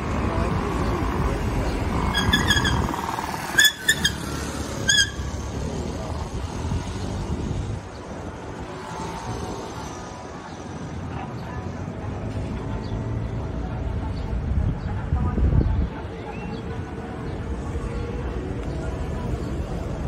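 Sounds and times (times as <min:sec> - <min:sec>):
cars passing on street: 0:00.0 - 0:20.0.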